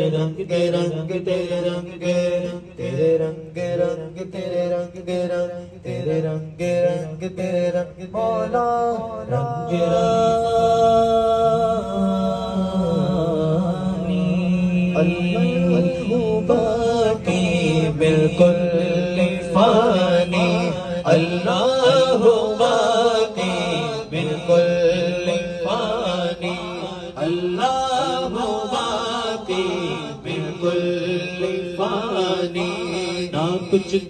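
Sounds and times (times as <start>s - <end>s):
men singing devotional chant: 0.0s - 34.0s.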